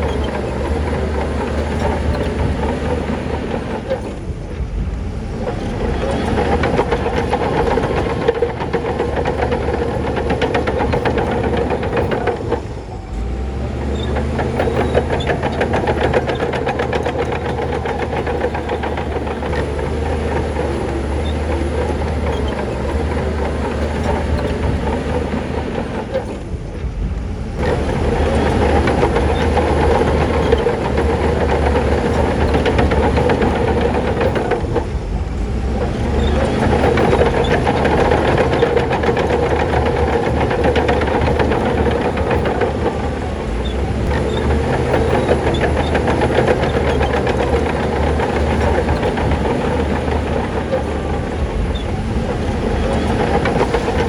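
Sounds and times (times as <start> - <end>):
bulldozer diesel engine: 0.0 - 54.0
steel tracks clattering: 0.0 - 54.0.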